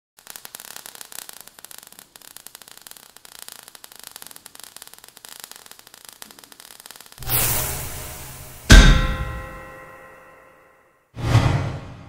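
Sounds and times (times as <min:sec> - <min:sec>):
sparks crackling and hissing: 0:00.2 - 0:10.0.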